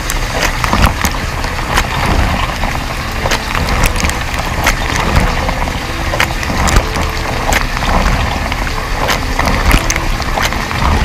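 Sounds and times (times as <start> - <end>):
dishwasher water spraying: 0.0 - 11.0.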